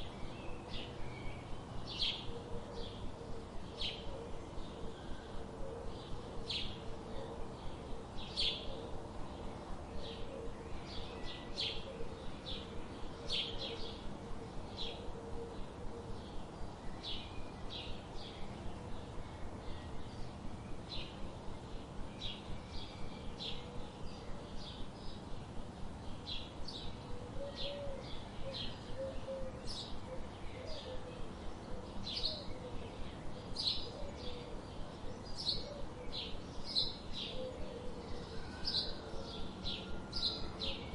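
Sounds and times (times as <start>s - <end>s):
soft background hiss: 0.0s - 40.9s.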